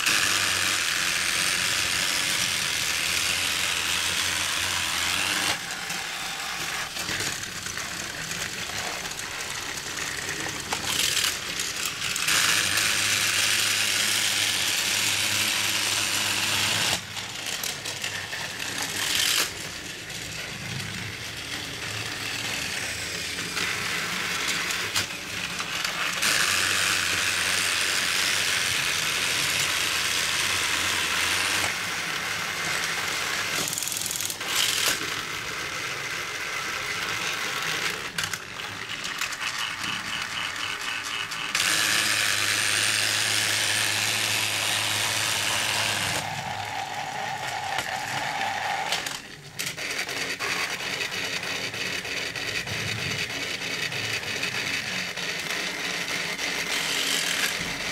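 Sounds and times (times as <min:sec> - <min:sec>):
toy train motors whirring: 0:00.0 - 0:57.9.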